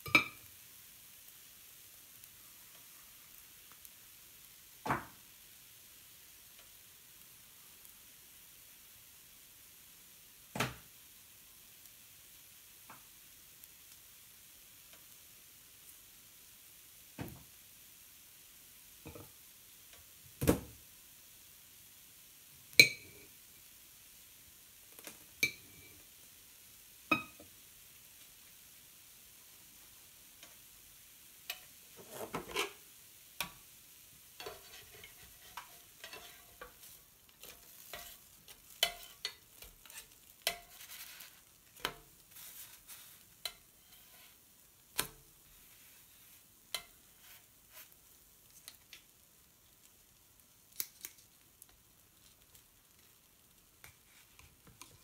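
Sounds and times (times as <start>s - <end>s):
spatula and tongs on griddle: 0.0s - 8.6s, 11.6s - 17.6s, 18.4s - 20.9s, 22.7s - 26.3s, 26.9s - 55.0s
faint sizzle: 0.0s - 55.0s.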